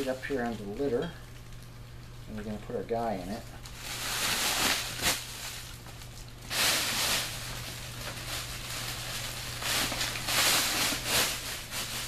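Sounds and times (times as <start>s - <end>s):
heat blanket crinkling: 0.0s - 12.0s.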